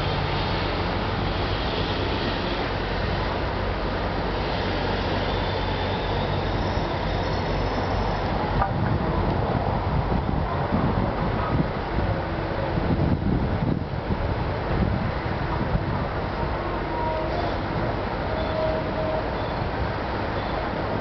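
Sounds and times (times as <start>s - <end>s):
city traffic: 0.0s - 21.0s.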